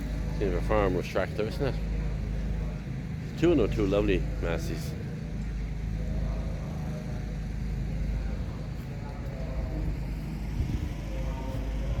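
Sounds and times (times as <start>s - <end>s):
faint voices talking: 0.0s - 12.0s
low outdoor rumble: 0.0s - 12.0s.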